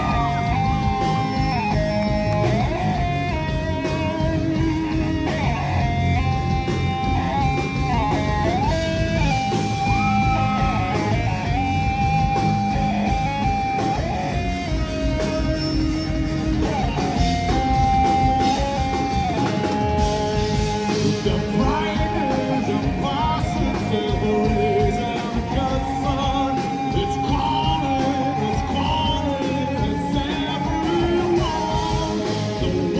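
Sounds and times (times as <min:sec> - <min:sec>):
lead guitar melody: 0:00.0 - 0:32.9
rock band playing live: 0:00.0 - 0:32.9.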